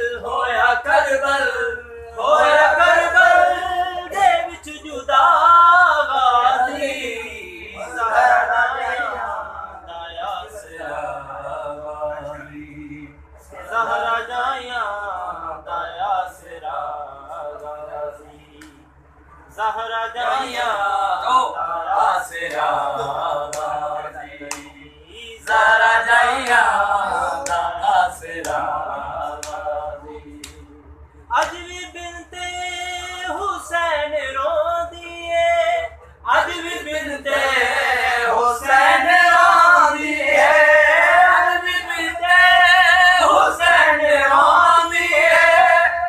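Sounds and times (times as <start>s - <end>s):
man singing unaccompanied: 0.0s - 18.8s, 19.6s - 30.7s, 31.3s - 46.0s
men chanting a lament: 0.0s - 46.0s.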